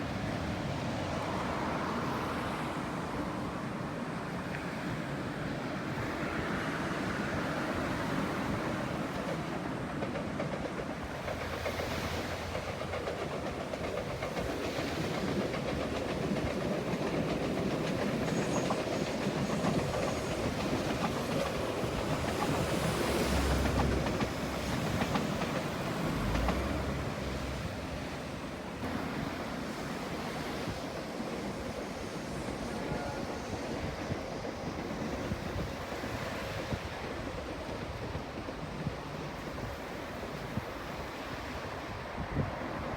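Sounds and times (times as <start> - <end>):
subway train wheels clacking: 0.0 - 42.9.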